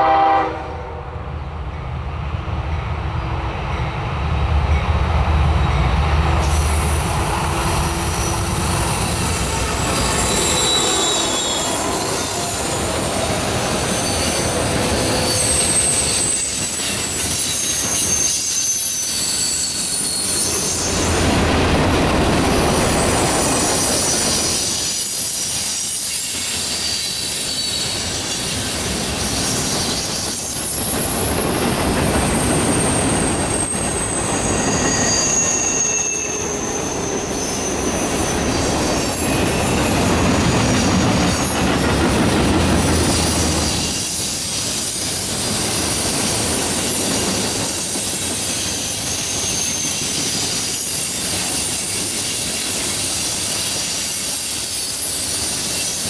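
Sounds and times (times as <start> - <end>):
diesel locomotive drone: 0.0 - 26.6, 27.3 - 56.0
rumble of rolling freight cars: 0.0 - 56.0
train wheels squealing on rails: 2.7 - 56.0.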